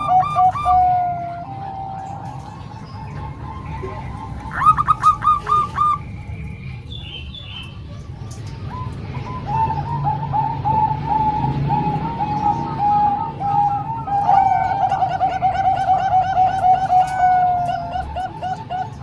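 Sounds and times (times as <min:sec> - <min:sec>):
doves cooing: 0:00.0 - 0:06.8, 0:08.6 - 0:19.0.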